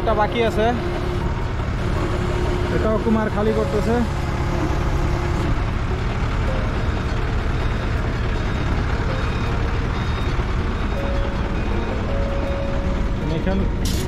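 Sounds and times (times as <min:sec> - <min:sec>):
forklift engine running: 0:00.0 - 0:14.0.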